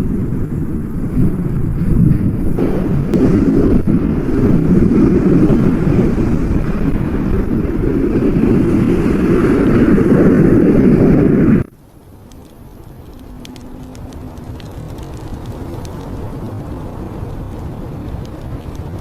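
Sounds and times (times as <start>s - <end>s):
strong blizzard wind: 0.0s - 19.0s.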